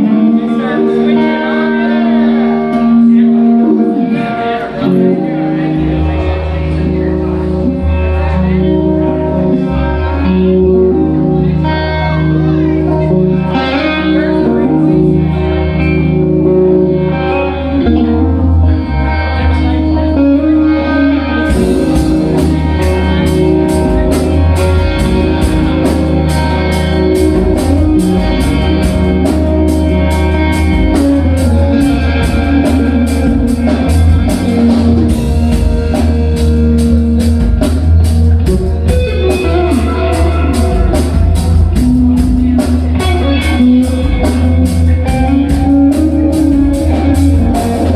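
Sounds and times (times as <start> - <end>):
rock band playing loudly: 0.0 - 47.9.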